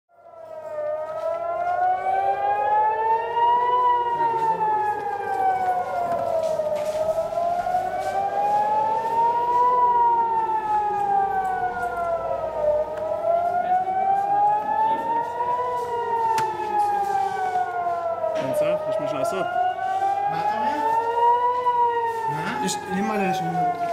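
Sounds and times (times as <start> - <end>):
air-raid siren wailing: 0.1 - 23.9
lower siren wail: 0.1 - 23.9.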